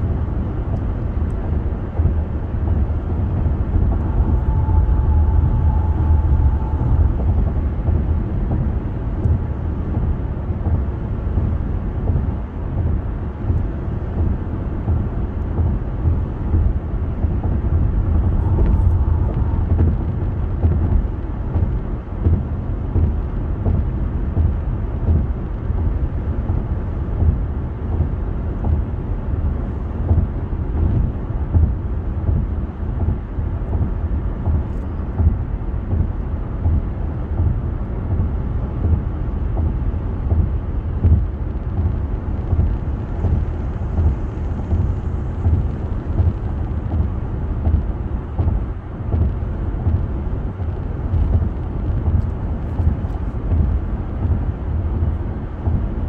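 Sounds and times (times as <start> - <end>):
car tyre and road noise: 0.0 - 56.0.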